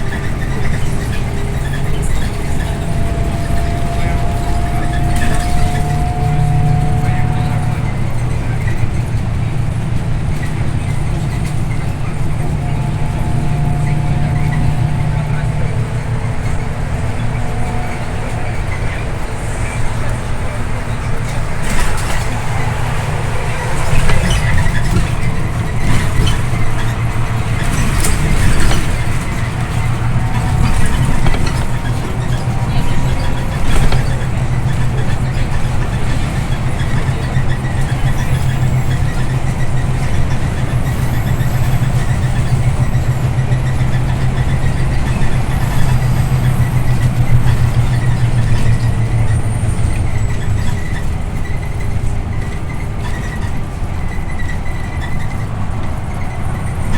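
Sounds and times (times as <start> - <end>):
bus engine drone: 0.0 - 56.9
rattles and knocks: 0.0 - 56.9
road rumble: 0.0 - 56.9.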